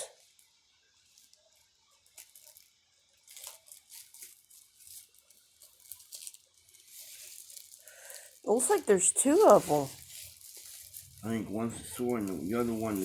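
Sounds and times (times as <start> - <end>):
packaging crinkling and rustling: 0.0 - 13.0
packaging sharp crackles: 0.0 - 13.0.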